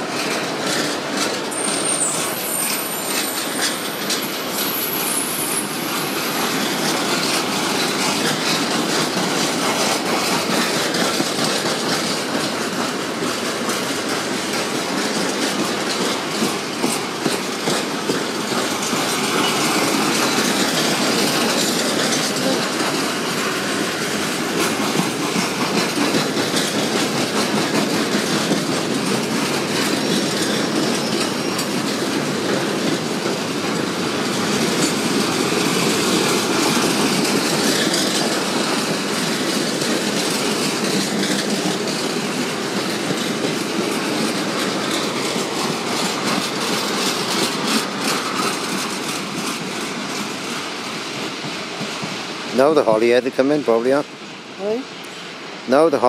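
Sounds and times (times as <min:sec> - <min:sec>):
wheels clacking over rail joints: 0:00.0 - 0:54.2
freight train wheels rumbling: 0:00.0 - 0:56.0.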